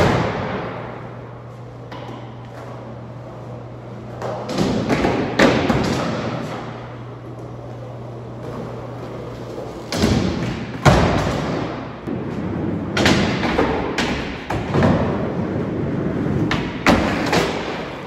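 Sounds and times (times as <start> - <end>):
skateboard wheels rumbling: 0.0 - 10.0, 10.8 - 18.0.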